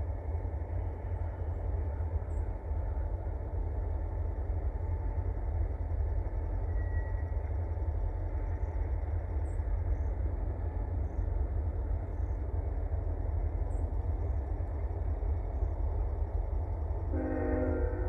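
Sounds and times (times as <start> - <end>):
distant diesel locomotives rumbling: 0.0 - 18.0.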